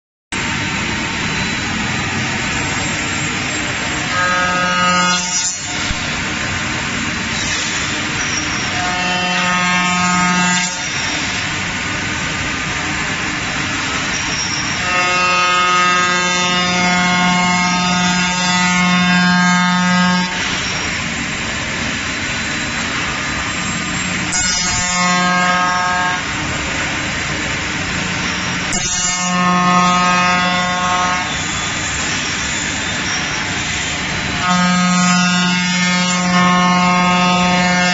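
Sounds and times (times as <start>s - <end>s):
router cutter droning hum: 0.4s - 37.9s.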